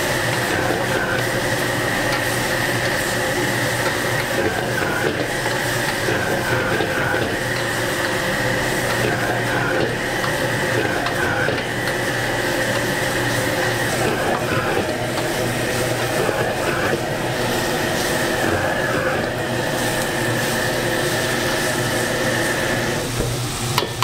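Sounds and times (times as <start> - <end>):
food sizzling: 0.0 - 24.0
gas wok burner roaring: 0.0 - 24.0.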